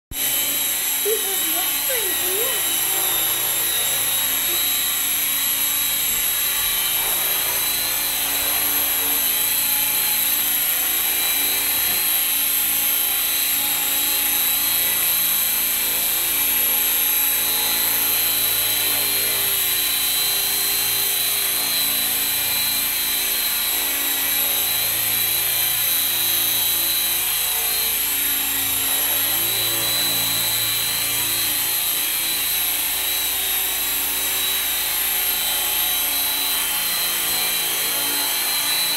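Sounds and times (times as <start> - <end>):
model helicopter motor whine: 0.1 - 38.9.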